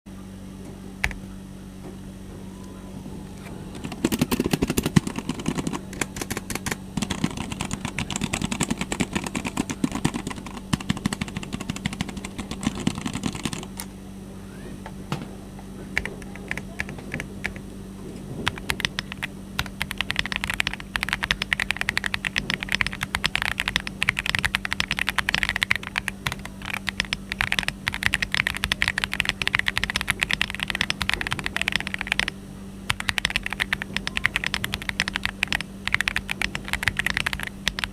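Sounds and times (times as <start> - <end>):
mechanical keyboard typing: 3.7 - 13.8, 16.0 - 17.6, 18.4 - 32.3, 32.9 - 37.9.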